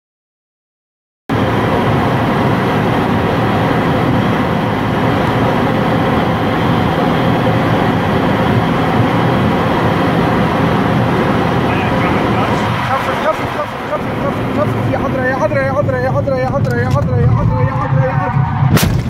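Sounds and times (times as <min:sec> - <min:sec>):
car engine running: 0:01.3 - 0:19.0
road and wind noise: 0:01.3 - 0:19.0.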